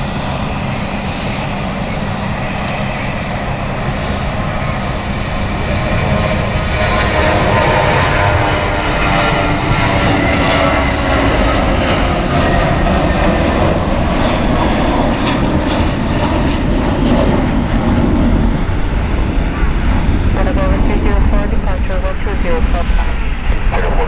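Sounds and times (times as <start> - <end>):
engine whine: 0.0 - 24.0
jet engines roaring: 0.0 - 24.0.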